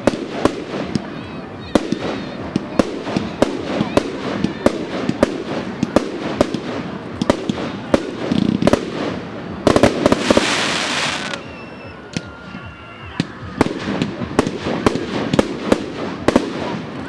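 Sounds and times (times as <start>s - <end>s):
loud hiss: 0.0s - 16.3s
fireworks bangs and crackles: 0.0s - 17.0s.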